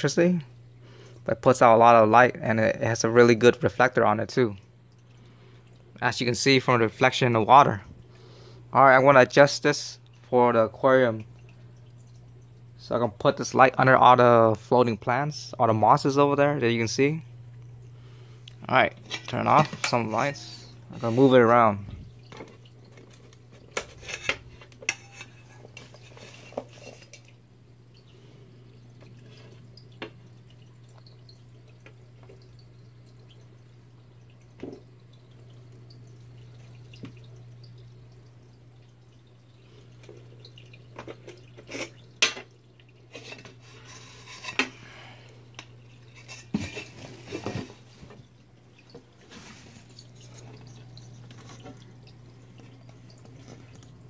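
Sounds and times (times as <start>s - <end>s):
steady low hum: 0.0s - 54.0s
water dripping: 0.4s - 14.0s, 17.0s - 21.0s, 21.7s - 54.0s.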